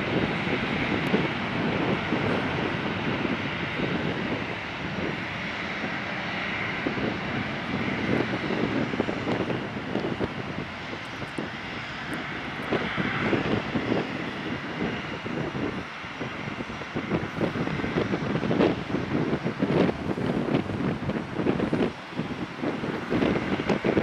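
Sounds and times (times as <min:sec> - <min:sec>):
jet engines at takeoff thrust: 0:00.0 - 0:24.0.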